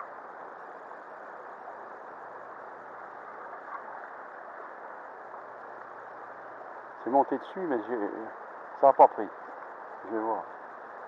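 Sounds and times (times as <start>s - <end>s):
river water flowing over stones: 0.0s - 11.0s.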